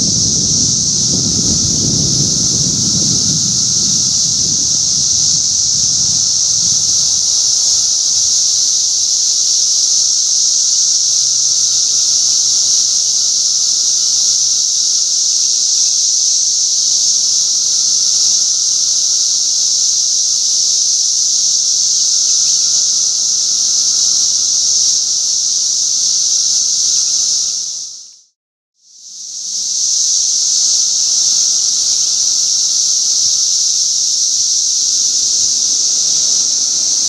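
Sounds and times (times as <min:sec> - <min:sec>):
cicadas chorusing: 0:00.0 - 0:28.3, 0:28.9 - 0:37.0.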